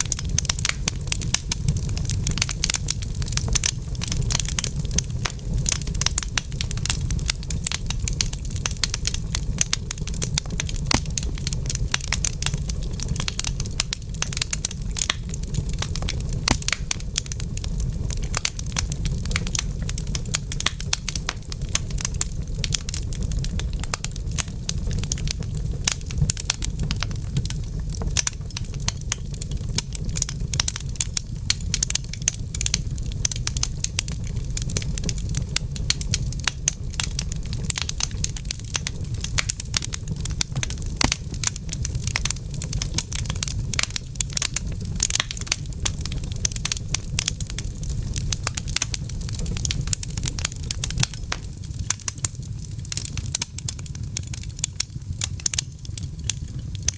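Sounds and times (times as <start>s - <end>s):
fire low rumble: 0.0s - 56.9s
wood fire crackling and popping: 0.0s - 56.9s.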